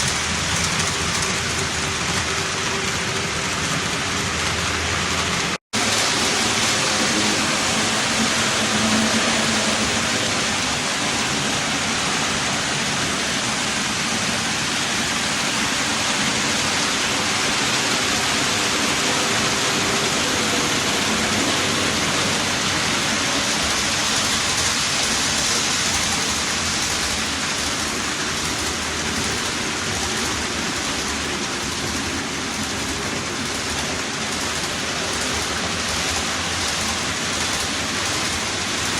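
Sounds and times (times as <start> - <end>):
model train rolling on track: 0.0 - 38.9.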